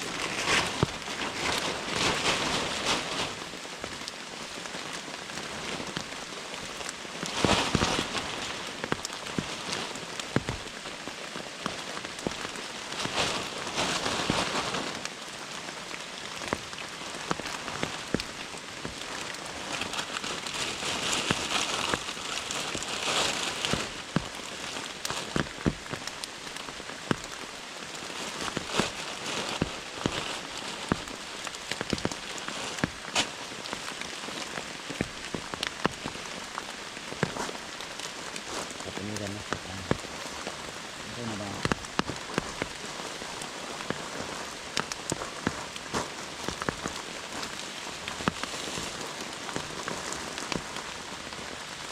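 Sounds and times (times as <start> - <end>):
heavy rain hiss: 0.0 - 51.9
raindrops tapping on surfaces: 0.0 - 51.9.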